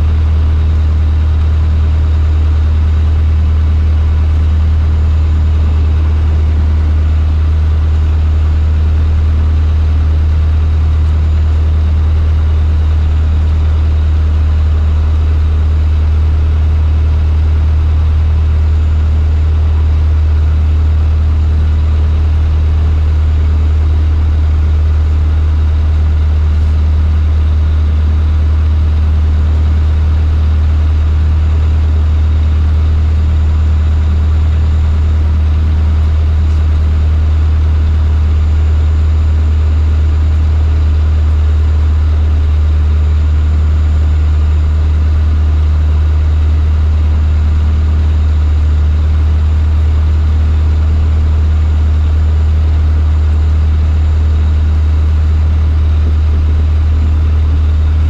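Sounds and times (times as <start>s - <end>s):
airplane engine and propeller drone: 0.0s - 58.0s.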